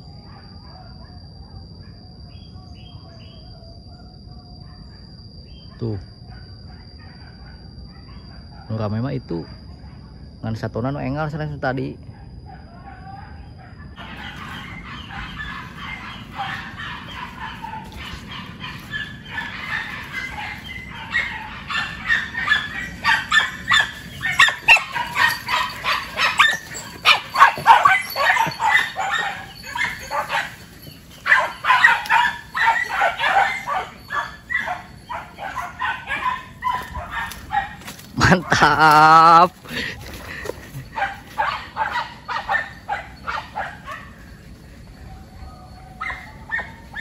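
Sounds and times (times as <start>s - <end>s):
dogs barking and yelping: 0.2s - 8.8s, 9.4s - 10.4s, 12.0s - 47.0s.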